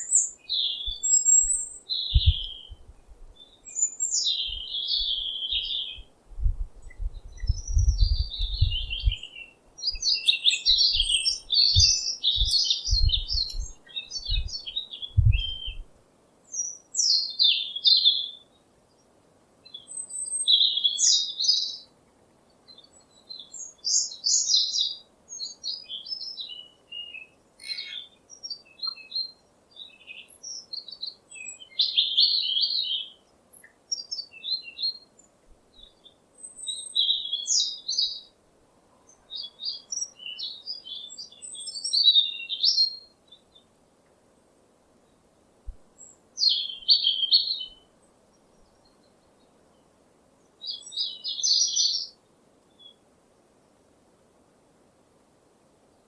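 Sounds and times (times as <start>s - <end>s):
songbirds chirping and trilling: 0.0s - 54.4s.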